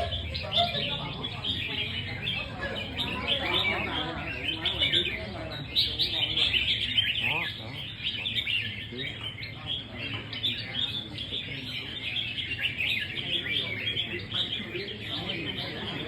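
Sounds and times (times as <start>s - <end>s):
chorus of birds singing: 0.0s - 16.0s.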